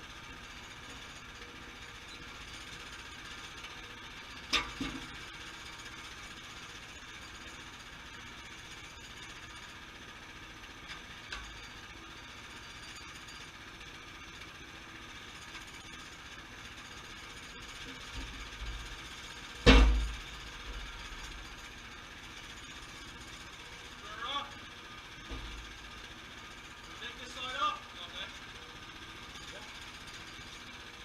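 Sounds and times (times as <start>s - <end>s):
sawmill engine running: 5.1s - 31.0s.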